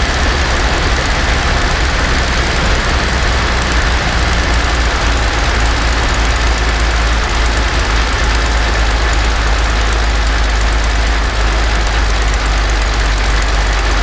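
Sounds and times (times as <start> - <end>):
aero engine running: 0.0 - 14.0.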